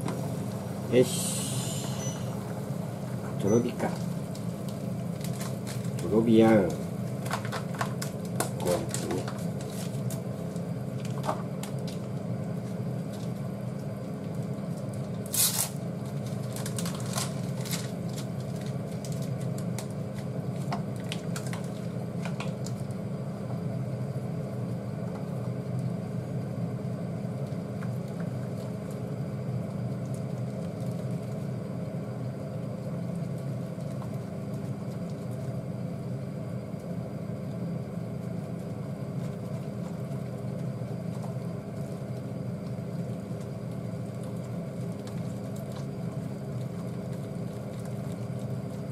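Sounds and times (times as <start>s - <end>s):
induction hob hum: 0.0s - 48.9s.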